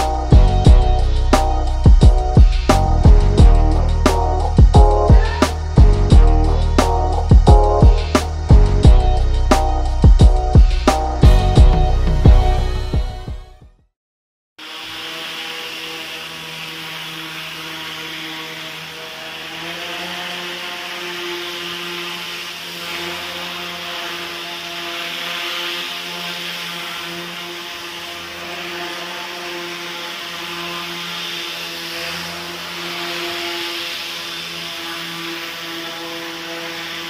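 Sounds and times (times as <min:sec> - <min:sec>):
electric motor and propeller buzzing: 0:00.0 - 0:13.6, 0:14.6 - 0:37.0.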